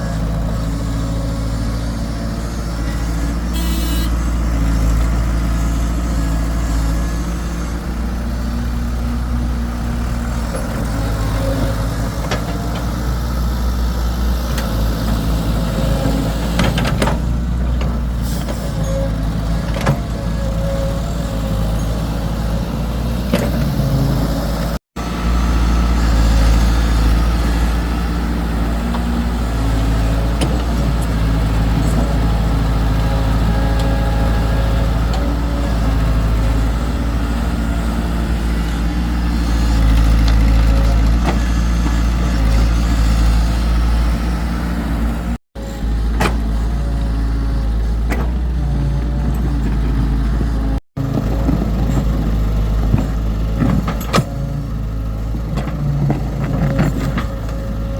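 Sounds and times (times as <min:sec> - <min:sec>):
diesel engine humming: 0:00.0 - 0:57.9.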